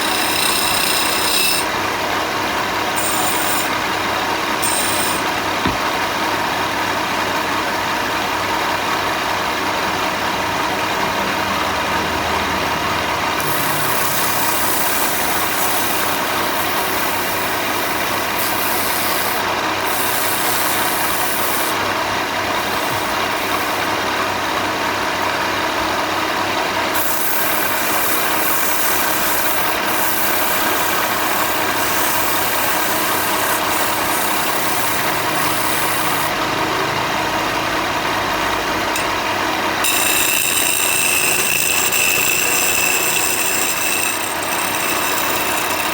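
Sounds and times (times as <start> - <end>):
machine motor running: 0.0 - 7.8, 9.5 - 45.9.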